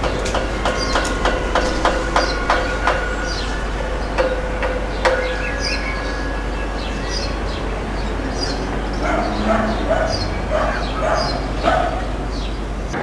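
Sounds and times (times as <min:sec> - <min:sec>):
high falling animal calls: 0:00.0 - 0:12.5
low hum: 0:00.0 - 0:13.0.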